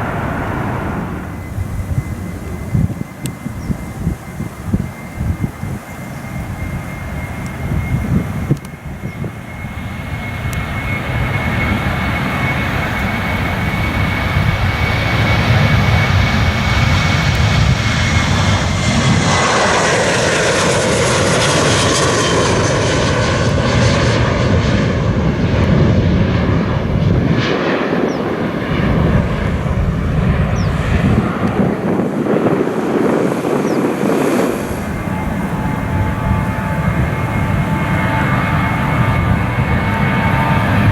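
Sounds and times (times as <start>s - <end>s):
high engine whine: 0.0s - 40.9s
jet airliner passing by: 0.0s - 40.9s.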